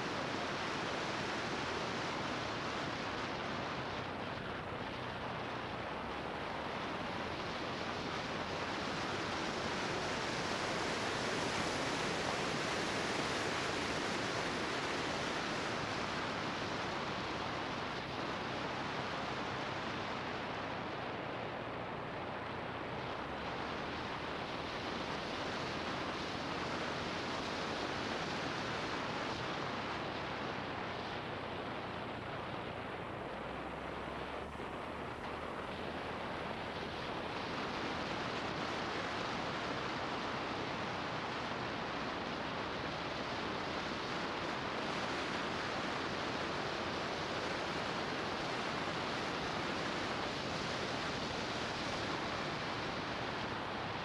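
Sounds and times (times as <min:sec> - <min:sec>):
faint low engine hum: 0:00.0 - 0:54.0.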